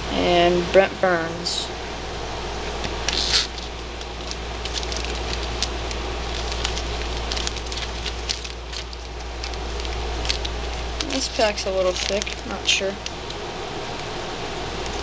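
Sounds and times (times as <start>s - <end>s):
steady low hum: 0.0s - 15.0s
foil card pack crinkling: 3.0s - 15.0s.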